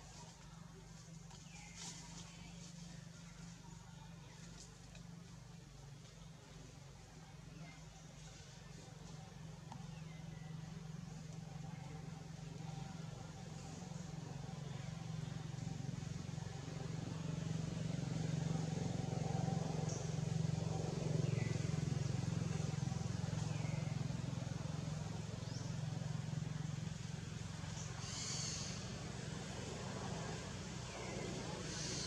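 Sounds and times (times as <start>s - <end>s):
low motor hum: 0.0s - 32.0s.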